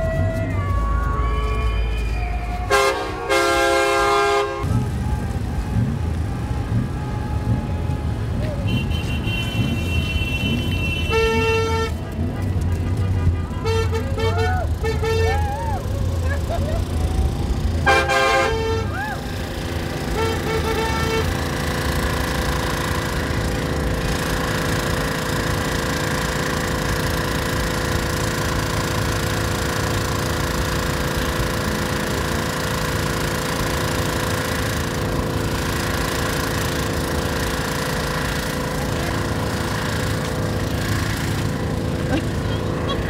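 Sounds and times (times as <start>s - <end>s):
generator engine drone: 0.0s - 43.0s.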